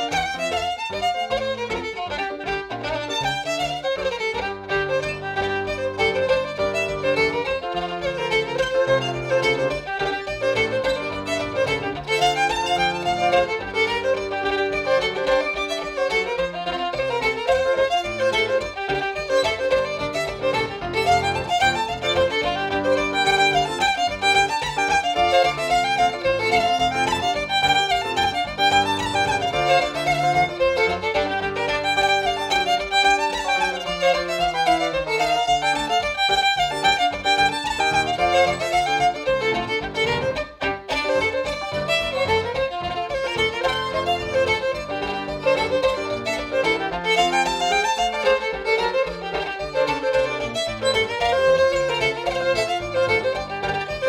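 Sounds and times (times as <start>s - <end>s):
fiddle playing a brisk tune: 0.0s - 54.0s.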